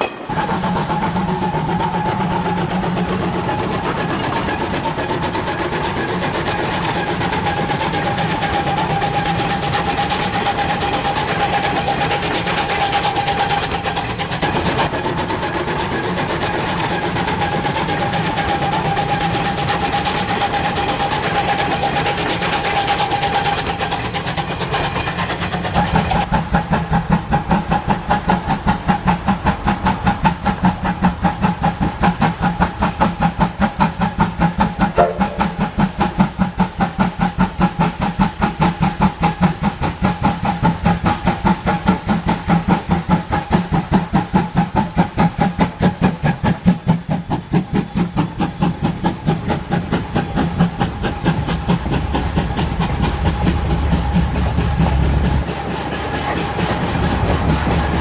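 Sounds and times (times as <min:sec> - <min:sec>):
steam locomotive chuffing: 0:00.0 - 0:58.0
train coaches rolling by: 0:00.0 - 0:58.0.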